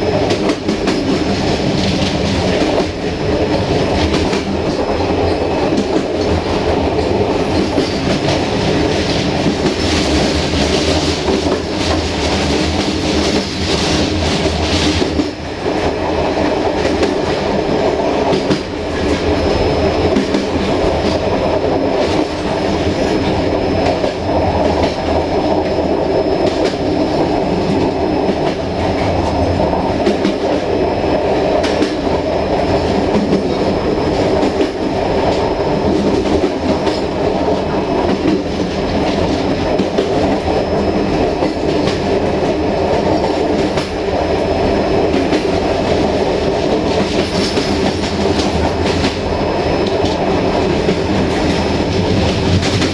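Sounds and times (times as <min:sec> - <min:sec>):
clickety-clack of rail joints: 0:00.0 - 0:52.9
train wheels rumbling on rails: 0:00.0 - 0:52.9.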